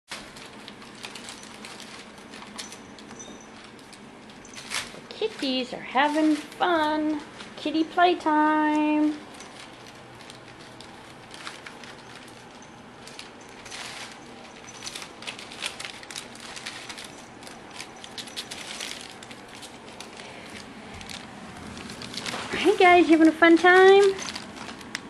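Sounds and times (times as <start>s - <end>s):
packing paper crinkling: 0.1s - 25.0s.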